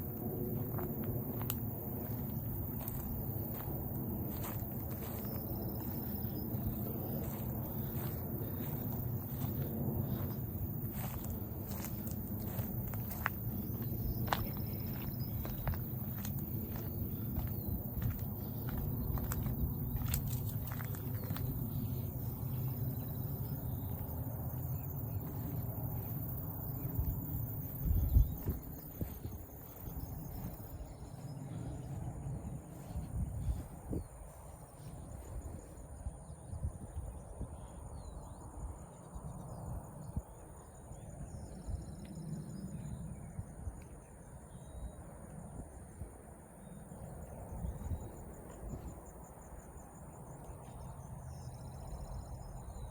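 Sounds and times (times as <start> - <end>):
insect chorus pulsing drone: 0.0 - 52.9.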